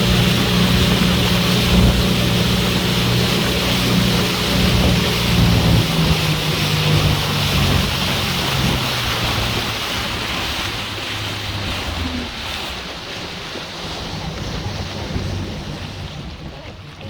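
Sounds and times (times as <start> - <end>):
boat motor running: 0.0 - 17.0
water rushing: 0.0 - 17.0
wind noise on microphone: 0.0 - 17.0.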